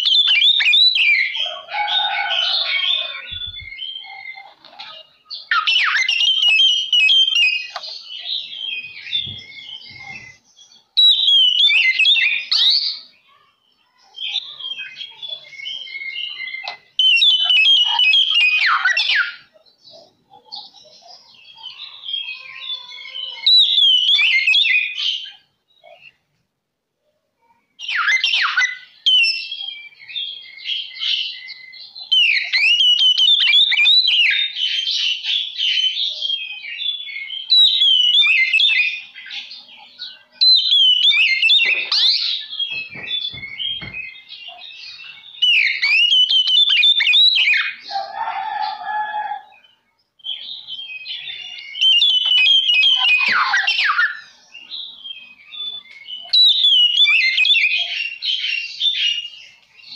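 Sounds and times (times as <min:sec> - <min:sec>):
bird singing whistled phrases: 0:00.0 - 0:26.2, 0:27.8 - 0:59.9.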